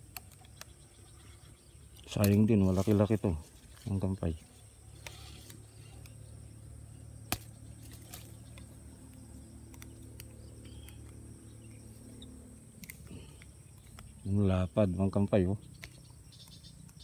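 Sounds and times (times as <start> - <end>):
insects droning: 0.0 - 17.0
steady low hum: 0.0 - 17.0.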